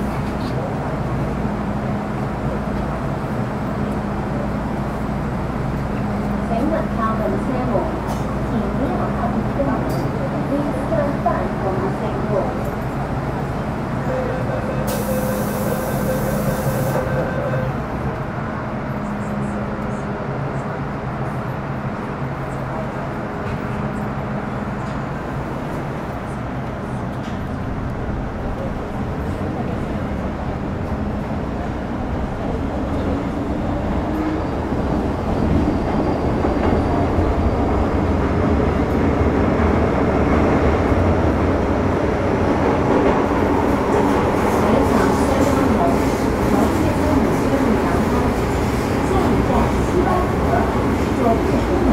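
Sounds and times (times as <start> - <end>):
train running rumble: 0.0 - 51.9.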